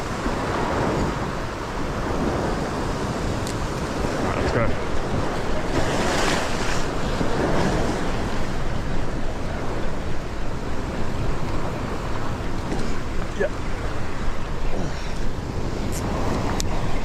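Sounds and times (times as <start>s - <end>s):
ocean swell washing over rocks: 0.0s - 17.0s
wind buffeting microphone: 0.0s - 17.0s.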